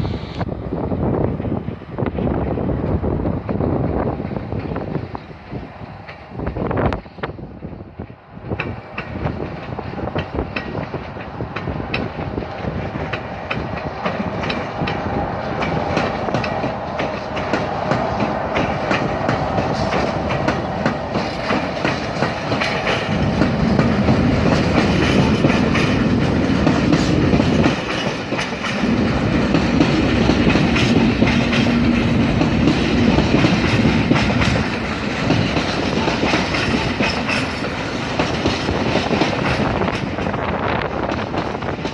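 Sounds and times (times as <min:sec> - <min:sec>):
low train rumble: 0:00.0 - 0:41.9
train wheels clattering over rail joints: 0:01.3 - 0:41.9.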